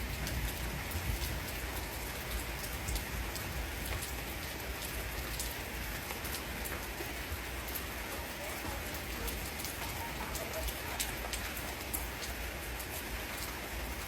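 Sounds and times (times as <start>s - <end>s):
heavy rain falling: 0.0s - 14.0s
raindrops ticking: 0.0s - 14.0s.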